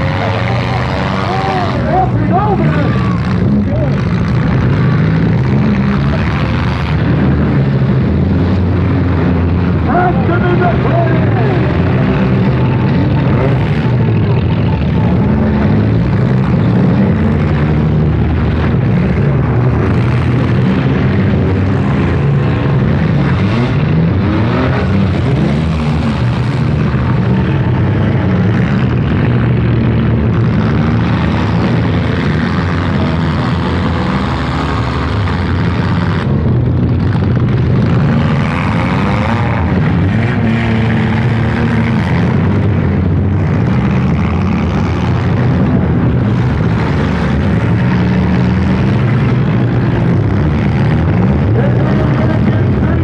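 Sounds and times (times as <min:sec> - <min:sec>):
car engines running and revving: 0:00.0 - 0:53.0.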